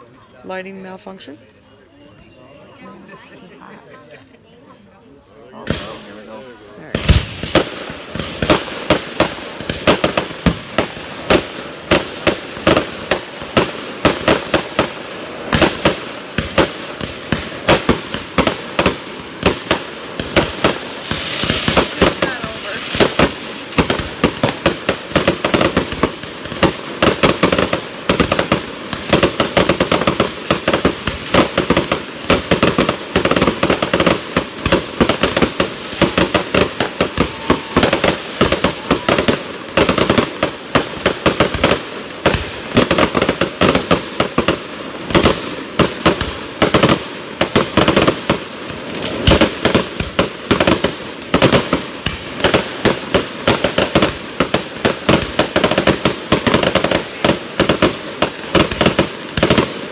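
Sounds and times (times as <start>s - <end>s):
fireworks bangs and crackles: 1.9s - 59.9s.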